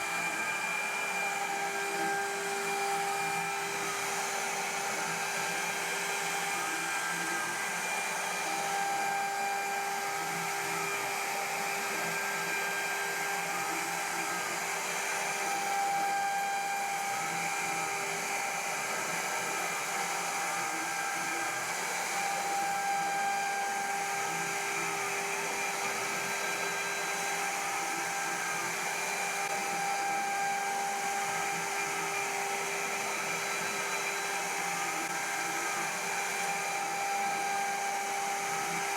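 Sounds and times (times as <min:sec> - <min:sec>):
milling machine spindle whine: 0:00.0 - 0:38.9.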